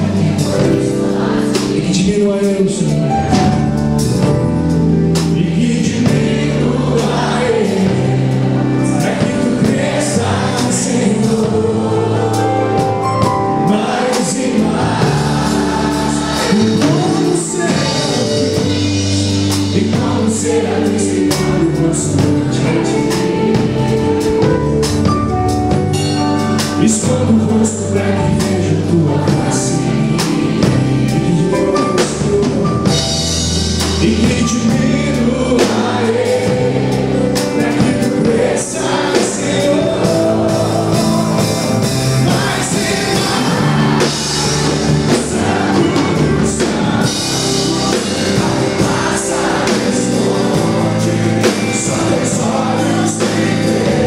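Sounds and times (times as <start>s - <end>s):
voices singing: 0.0s - 3.0s, 5.0s - 25.1s, 26.7s - 54.0s
drum kit beat: 0.0s - 54.0s
electric bass: 0.0s - 54.0s.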